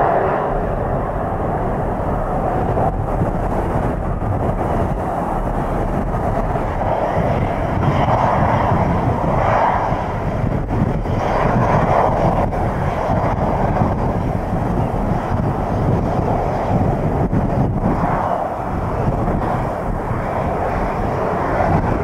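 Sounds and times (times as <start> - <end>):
jet engines at taxi power: 0.0 - 22.0
wind rumbling on microphone: 0.0 - 22.0.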